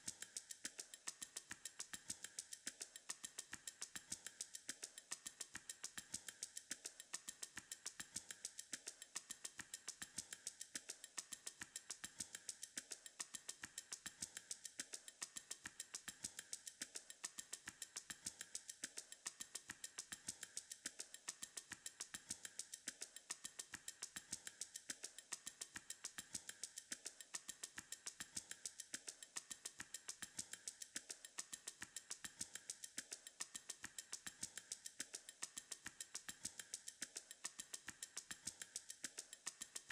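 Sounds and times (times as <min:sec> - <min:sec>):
ticking beat background music: 0:00.0 - 0:39.9.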